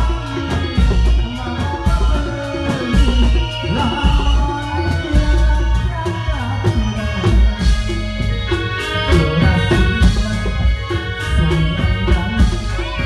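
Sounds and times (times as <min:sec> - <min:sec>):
heavy drum strokes: 0:00.0 - 0:13.0.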